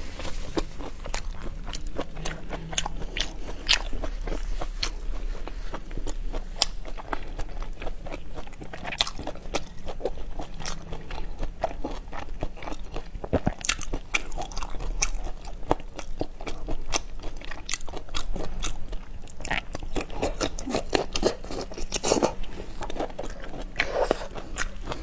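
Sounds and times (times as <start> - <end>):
chewing crunchy shellfish: 0.0 - 25.0.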